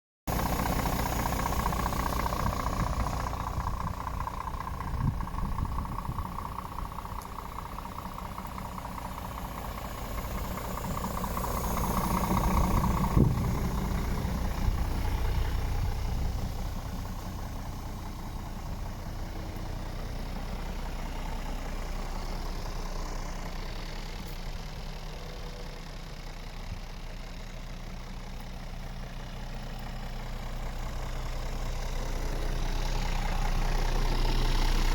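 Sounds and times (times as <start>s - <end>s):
diesel truck engine idling: 0.3s - 34.9s.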